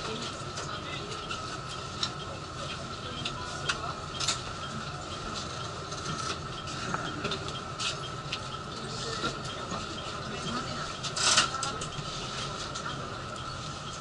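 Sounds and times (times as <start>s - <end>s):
electric train car hum: 0.0s - 14.0s.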